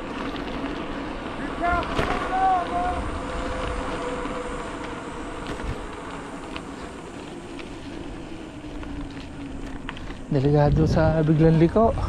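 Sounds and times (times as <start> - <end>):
bicycle tyre noise: 0.0 - 12.0
bike ticks and rattles: 0.0 - 12.0
wind rumbling on microphone: 0.0 - 12.0.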